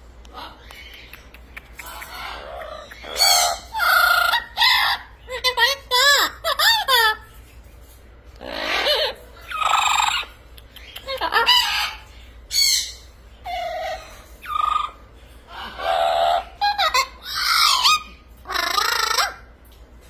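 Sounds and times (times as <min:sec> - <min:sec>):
parrot chattering and squawking: 0:00.3 - 0:07.6, 0:08.3 - 0:19.6.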